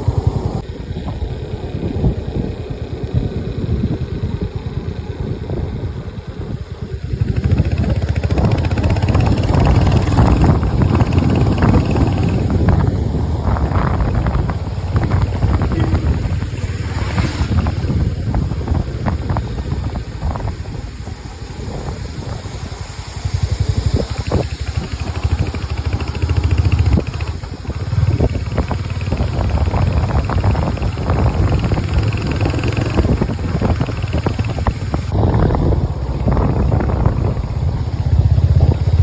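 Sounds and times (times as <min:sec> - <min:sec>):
vehicle engine running: 0:00.0 - 0:39.0
wind buffeting microphone: 0:00.0 - 0:39.0.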